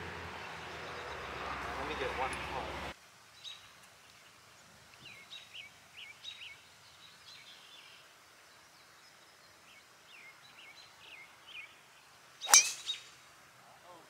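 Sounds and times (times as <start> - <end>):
birds chirping: 0.0 - 14.0
faint outdoor hiss: 0.0 - 14.0.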